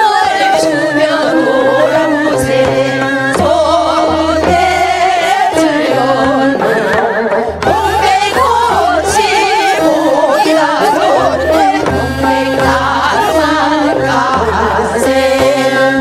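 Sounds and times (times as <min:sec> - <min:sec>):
instrumental accompaniment with bass: 0:00.0 - 0:16.0
women singing folk song: 0:00.0 - 0:16.0.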